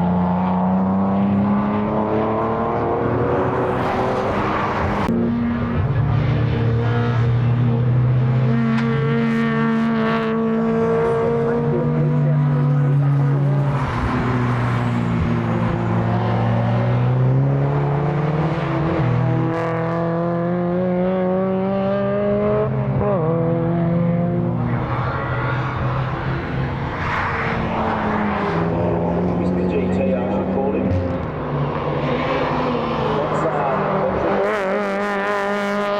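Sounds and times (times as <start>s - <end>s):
race car engines running hard: 0.0s - 35.9s.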